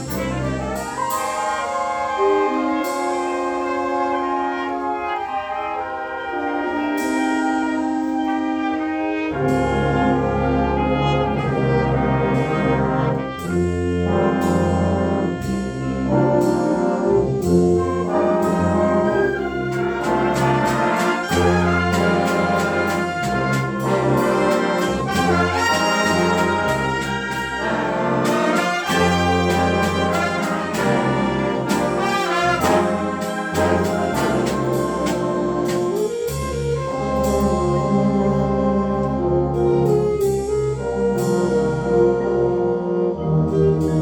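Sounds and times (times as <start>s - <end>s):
brass band playing: 0.0s - 44.0s.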